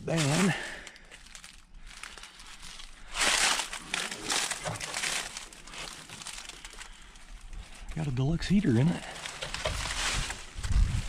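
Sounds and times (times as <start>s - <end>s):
footsteps crunching and rustling: 0.0s - 8.1s, 8.8s - 11.0s.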